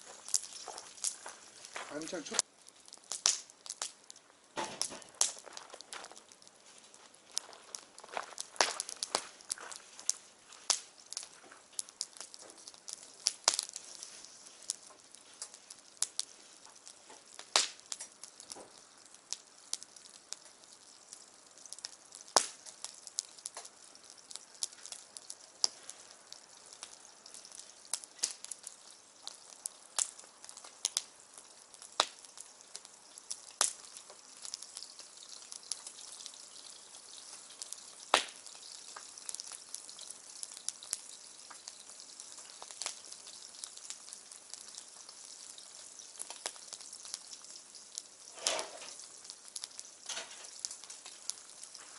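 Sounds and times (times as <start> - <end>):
bonfire crackling and popping: 0.0 - 51.9
fire hiss: 0.0 - 51.9.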